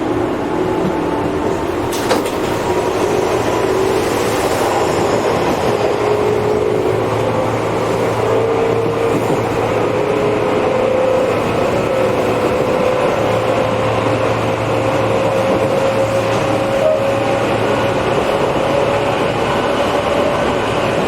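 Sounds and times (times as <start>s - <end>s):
electric train rumble: 0.0s - 21.0s.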